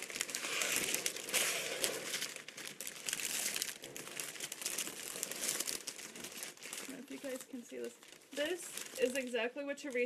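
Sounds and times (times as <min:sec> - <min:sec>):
cellophane crinkling: 0:00.0 - 0:10.0.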